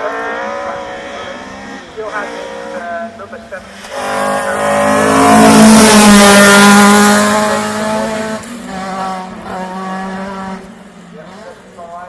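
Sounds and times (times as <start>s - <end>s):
rally car engine running hard: 0.0s - 11.7s.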